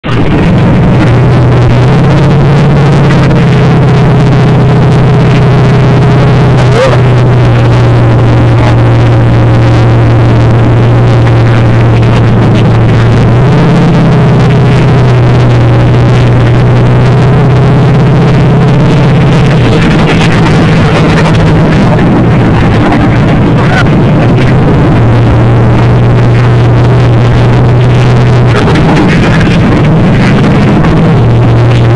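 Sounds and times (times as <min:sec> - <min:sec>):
monster truck engine droning: 0:00.0 - 0:31.9.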